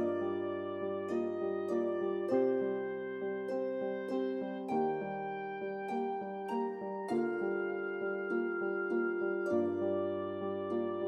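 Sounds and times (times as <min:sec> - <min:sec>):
soft plucked harp-like music: 0:00.0 - 0:11.0.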